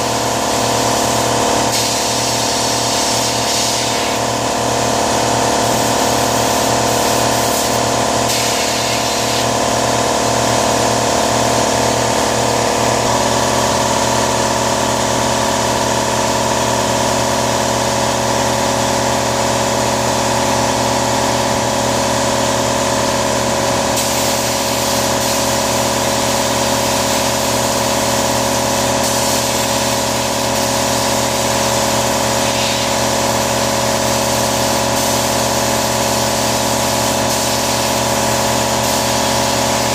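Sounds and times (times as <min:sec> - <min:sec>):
machine running with hiss: 0:00.0 - 0:39.9.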